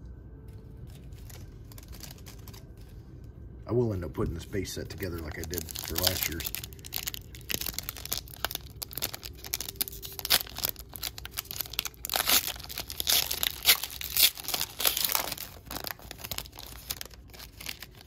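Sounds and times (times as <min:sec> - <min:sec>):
foil wrapper tearing and crinkling: 0:00.9 - 0:03.0, 0:04.9 - 0:18.0.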